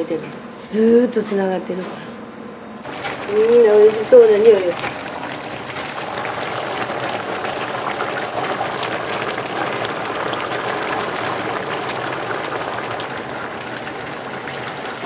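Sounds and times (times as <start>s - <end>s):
broth bubbling in pot: 2.8s - 15.0s.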